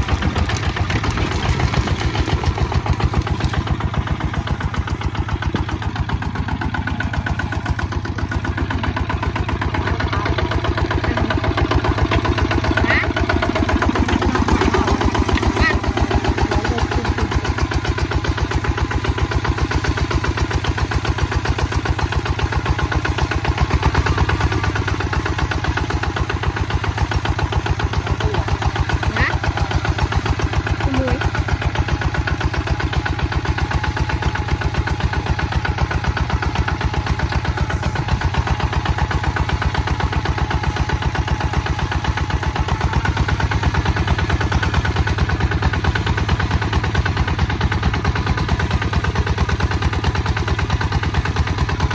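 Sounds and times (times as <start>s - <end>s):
diesel walking tractor chugging: 0.0s - 51.9s.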